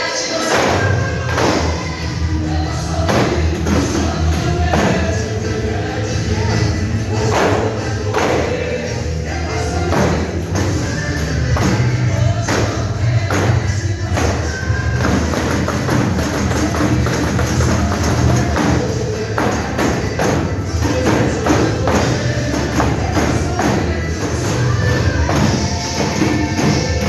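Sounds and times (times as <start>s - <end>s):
gospel worship music: 0.0s - 27.0s
tambourines jingling: 0.3s - 27.0s
steady bass: 0.5s - 27.0s.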